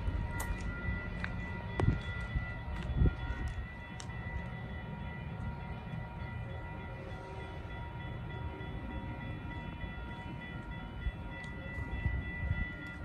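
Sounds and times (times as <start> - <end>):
crossing warning bell: 0.0 - 13.0.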